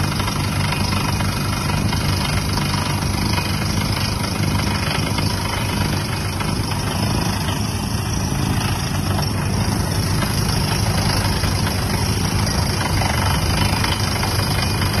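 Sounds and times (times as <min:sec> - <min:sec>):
heavy engine drone: 0:00.0 - 0:15.0.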